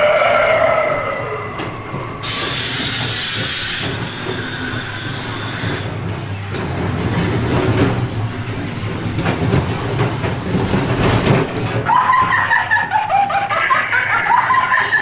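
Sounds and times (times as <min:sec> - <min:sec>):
ride car rumbling and rattling: 0:00.0 - 0:15.0.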